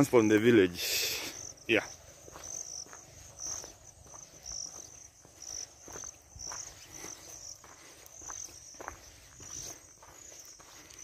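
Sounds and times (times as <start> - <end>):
footsteps on dirt road: 0.0 - 11.0
insects chirping: 0.0 - 11.0.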